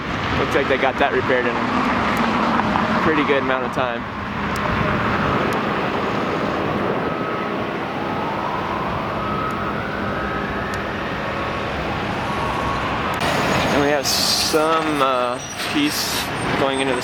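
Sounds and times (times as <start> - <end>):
vehicle engine roar: 0.0 - 17.0.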